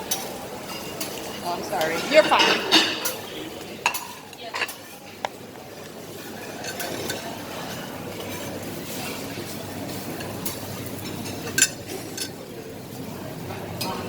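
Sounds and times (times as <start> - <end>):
dishes and cutlery clinking: 0.0 - 12.7.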